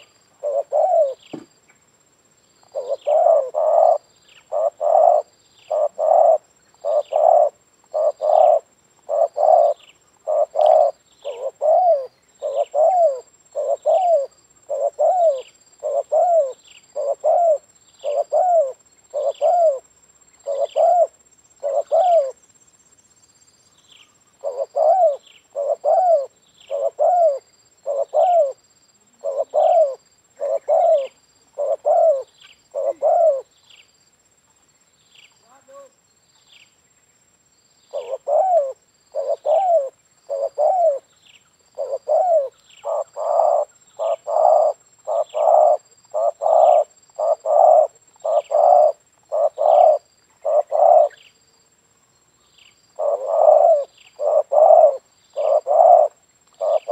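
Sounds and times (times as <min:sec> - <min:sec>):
dove cooing: 0:00.0 - 0:01.4, 0:02.7 - 0:22.4, 0:24.3 - 0:33.5, 0:37.9 - 0:41.1, 0:41.7 - 0:51.2, 0:53.0 - 0:56.9.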